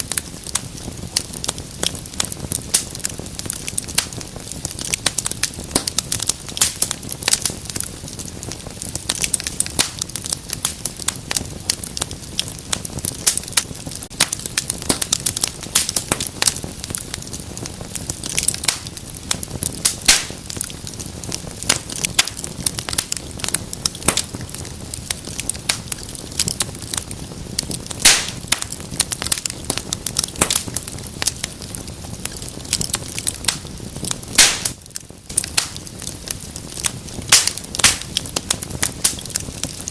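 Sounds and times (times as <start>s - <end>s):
loud fire snaps: 0.0s - 39.9s
wood fire crackling: 0.0s - 39.9s.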